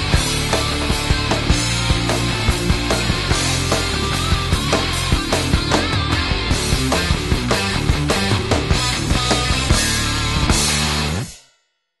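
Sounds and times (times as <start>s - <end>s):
rock music with drums: 0.0s - 11.5s.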